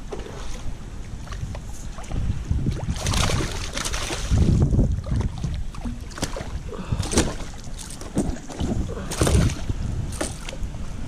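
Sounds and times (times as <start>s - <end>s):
water splashing around kayak: 0.0s - 11.0s
wind rumbling on microphone: 0.0s - 11.0s.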